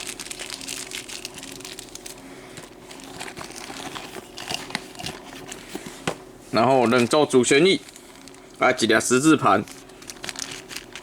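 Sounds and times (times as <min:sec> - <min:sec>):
plastic bags crinkling: 0:00.0 - 0:05.6, 0:06.6 - 0:11.0.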